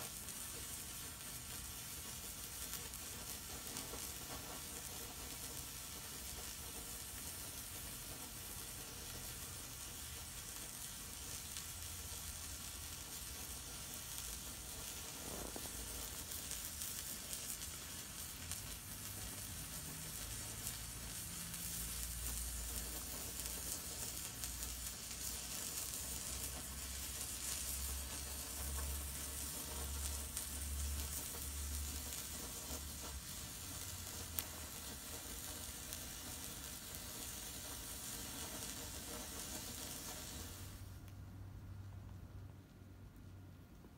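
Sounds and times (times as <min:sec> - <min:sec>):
flare burning with hiss: 0:00.0 - 0:43.2.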